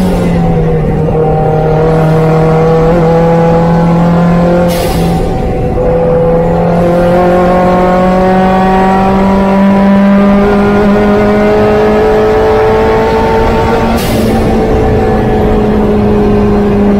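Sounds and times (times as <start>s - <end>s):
car engine at full throttle: 0.0s - 16.9s.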